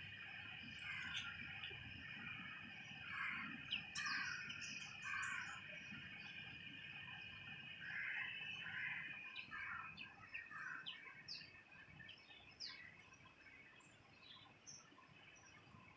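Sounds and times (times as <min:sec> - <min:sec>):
faint insect drone: 0:00.0 - 0:15.9
small birds chirping: 0:00.0 - 0:15.9.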